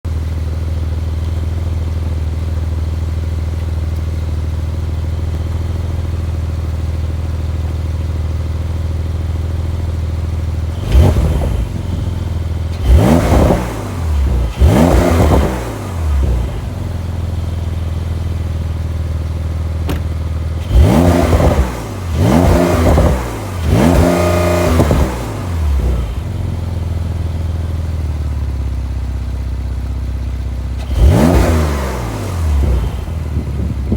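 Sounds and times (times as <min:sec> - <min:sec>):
sports car engine idling and revving: 0:00.1 - 0:33.9.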